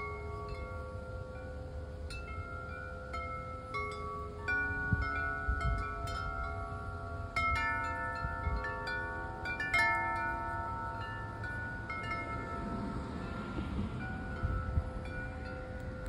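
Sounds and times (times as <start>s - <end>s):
wind chimes ringing: 0.0s - 16.0s.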